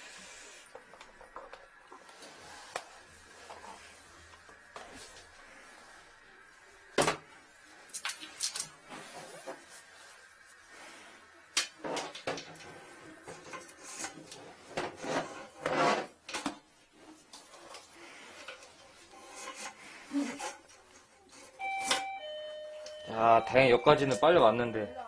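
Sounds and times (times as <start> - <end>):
hose scraping toilet bowl: 0.0 - 6.9, 7.6 - 21.8.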